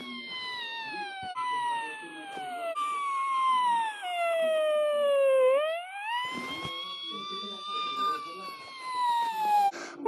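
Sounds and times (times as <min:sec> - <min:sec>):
police siren wailing: 0:00.0 - 0:09.7.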